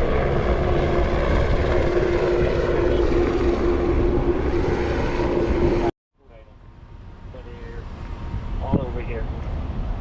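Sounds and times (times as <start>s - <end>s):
aircraft engine and rotor noise: 0.0s - 10.0s.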